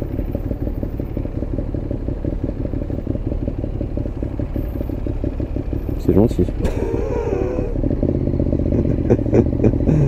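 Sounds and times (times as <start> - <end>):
motorcycle engine running steadily: 0.0 - 10.0.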